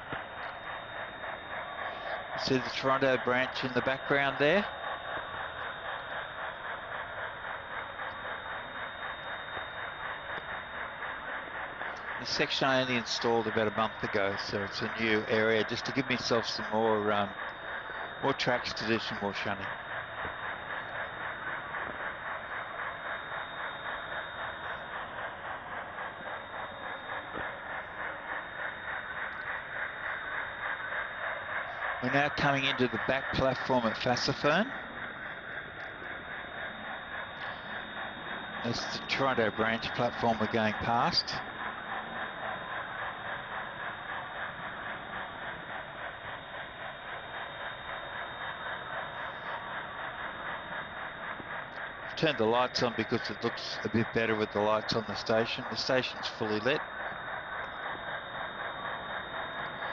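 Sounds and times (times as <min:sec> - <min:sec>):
model train rattling on track: 0:00.0 - 0:59.9.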